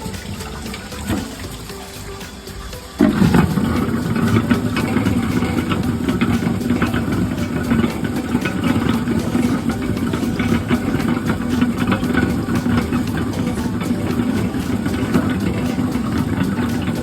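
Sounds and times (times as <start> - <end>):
peeling machine motor humming: 0.0 - 17.0.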